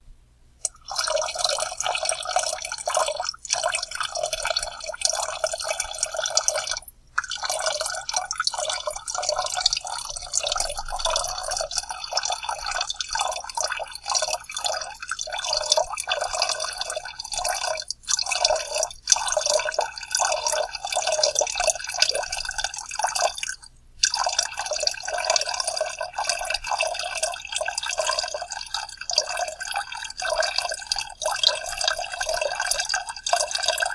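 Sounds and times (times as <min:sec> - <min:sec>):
soda pouring and gurgling: 0:00.6 - 0:33.9.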